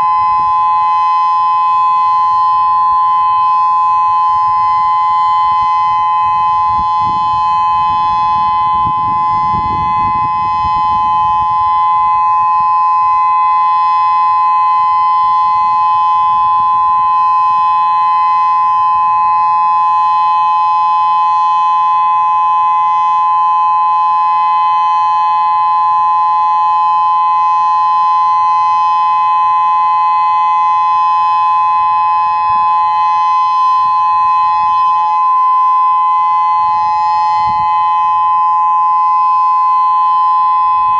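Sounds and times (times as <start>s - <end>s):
dual-tone warning siren: 0.0s - 40.9s.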